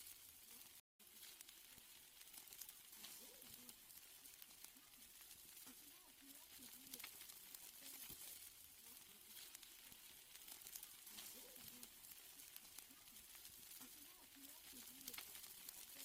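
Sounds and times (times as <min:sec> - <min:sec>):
steaks sizzling on a grill: 0:00.0 - 0:16.0.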